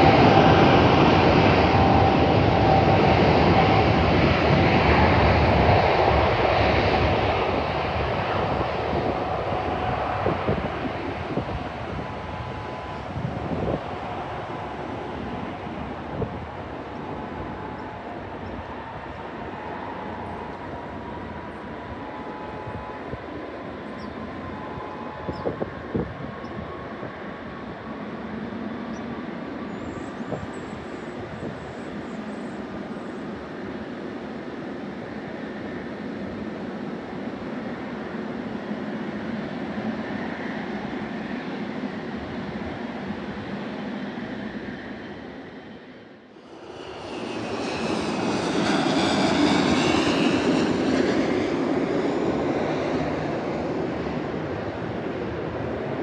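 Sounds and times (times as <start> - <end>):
distant jet engines rumbling: 0.0 - 56.0
turboprop plane passing overhead: 0.0 - 56.0.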